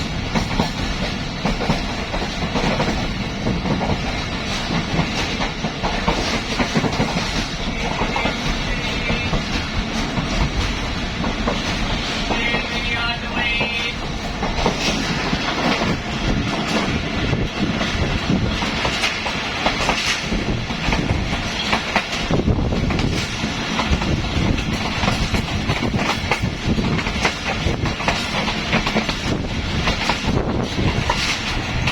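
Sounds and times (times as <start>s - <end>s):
continuous train rumble: 0.0s - 31.9s
train wheels clattering: 0.0s - 31.9s.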